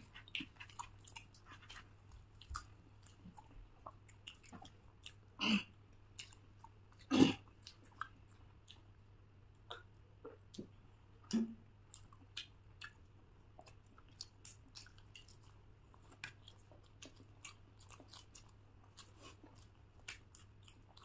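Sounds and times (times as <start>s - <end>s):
people chewing soft food: 0.0s - 21.0s.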